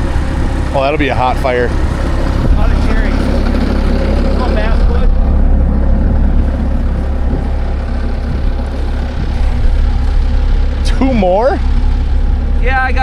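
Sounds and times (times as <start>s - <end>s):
engine running with deep rumble: 0.0s - 13.0s.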